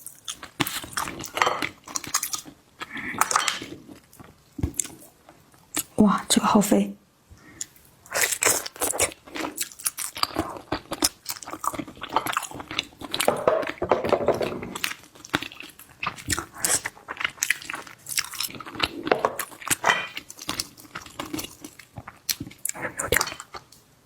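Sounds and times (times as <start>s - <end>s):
chewing and crunchy bites: 0.0s - 5.1s, 7.6s - 13.8s, 14.5s - 23.8s.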